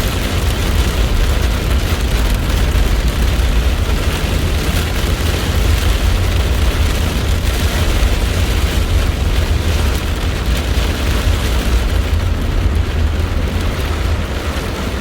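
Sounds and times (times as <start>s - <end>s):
heavy rain hiss: 0.0s - 15.0s.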